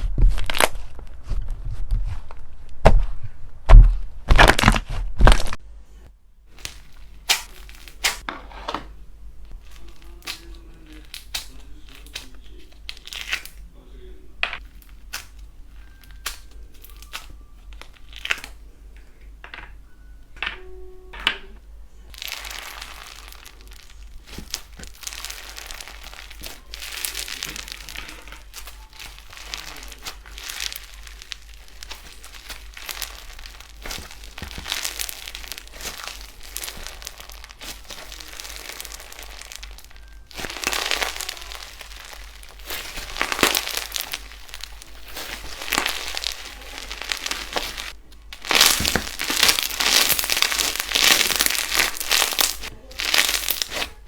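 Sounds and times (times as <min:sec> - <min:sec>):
slime crackling: 0:06.4 - 0:13.8, 0:14.5 - 0:19.2, 0:22.1 - 0:54.0.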